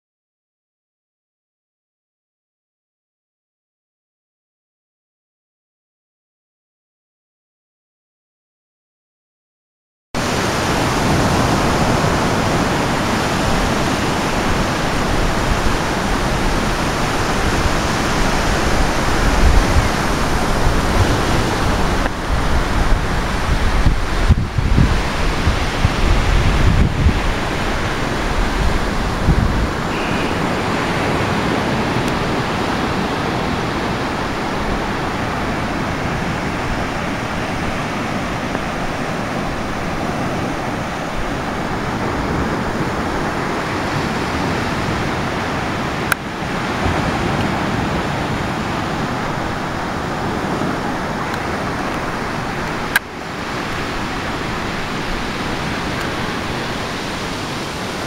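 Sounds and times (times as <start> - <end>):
ocean surf breaking: 10.2 - 58.0
wind buffeting microphone: 10.2 - 58.0.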